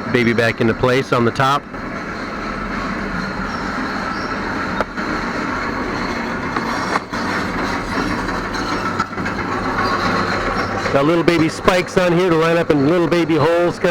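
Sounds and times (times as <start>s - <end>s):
mechanical rumble with humming: 0.0s - 13.9s.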